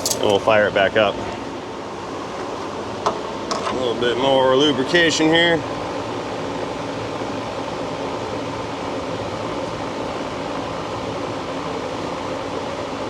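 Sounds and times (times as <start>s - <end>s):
fan whirring hum: 0.0s - 13.0s.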